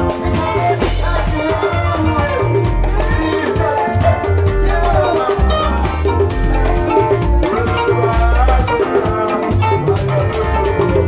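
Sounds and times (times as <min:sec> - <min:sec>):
drum kit beat: 0:00.0 - 0:11.0
electric bass line: 0:00.0 - 0:11.0
live band playing gospel music: 0:00.0 - 0:11.0.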